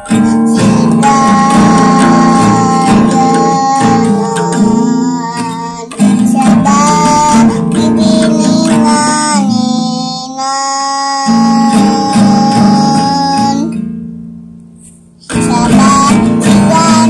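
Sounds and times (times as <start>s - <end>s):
child singing: 0.0s - 13.8s, 15.2s - 17.0s
strummed acoustic guitar: 0.0s - 17.0s.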